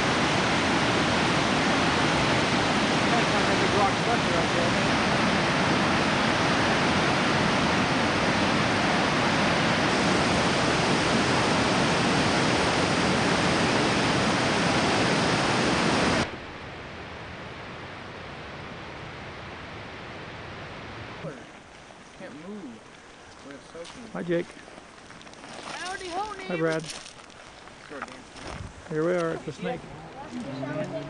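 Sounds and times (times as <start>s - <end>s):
waterfall roaring: 0.0s - 24.4s, 29.0s - 31.0s
faint steady hiss: 0.0s - 31.0s.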